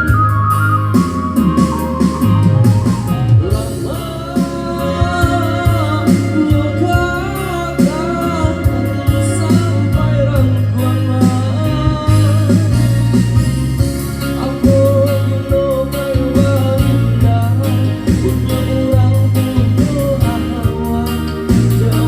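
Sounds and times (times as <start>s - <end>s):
heavy bass line: 0.0s - 22.0s
person singing: 1.2s - 13.5s, 14.2s - 22.0s.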